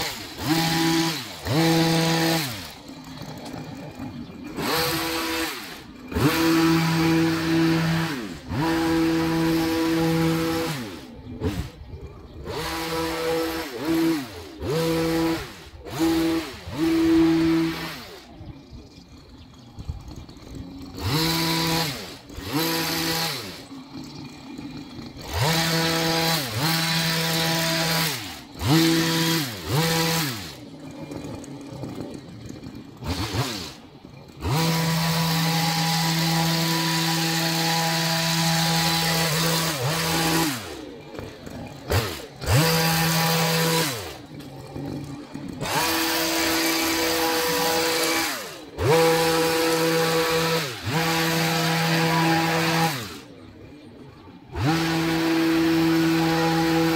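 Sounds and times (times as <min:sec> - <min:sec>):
hedge trimmer engine revving: 0:00.0 - 0:56.9.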